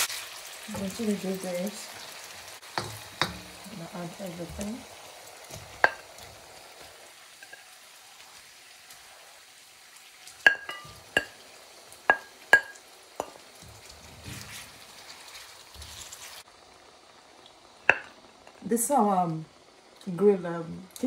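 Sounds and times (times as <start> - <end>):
prawns sizzling in oil: 0.0 - 21.0.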